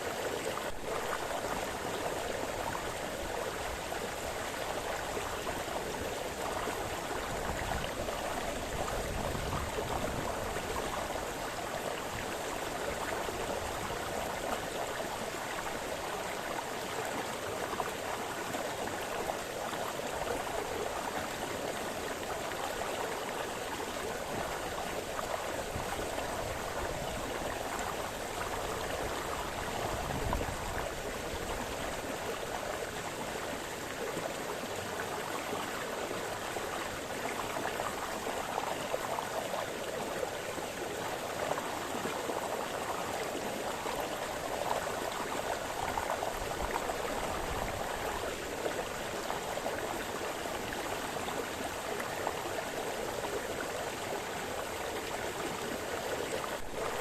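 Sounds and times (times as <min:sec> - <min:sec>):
brook burbling over stones: 0:00.0 - 0:57.0.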